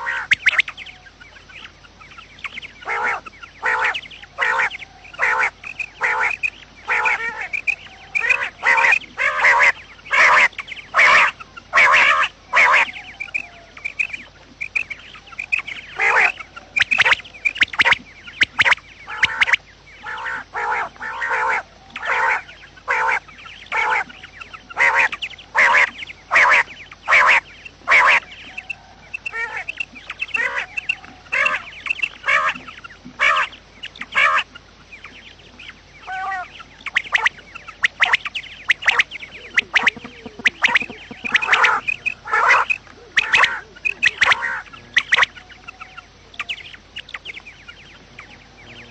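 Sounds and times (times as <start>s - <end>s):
quail calling: 0.0s - 48.9s.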